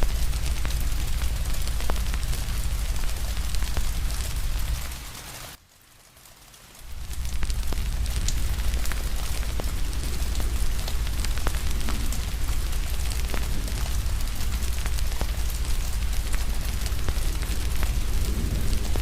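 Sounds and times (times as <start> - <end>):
deep even rumble: 0.0 - 5.0, 6.9 - 19.0
wood fire crackling and popping: 0.0 - 5.6, 6.3 - 19.0
steady rainfall: 0.0 - 19.0.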